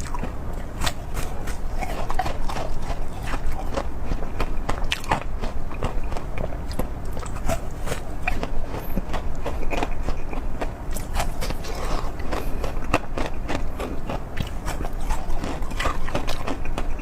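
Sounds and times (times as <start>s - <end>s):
person biting and chewing food: 0.0s - 17.0s.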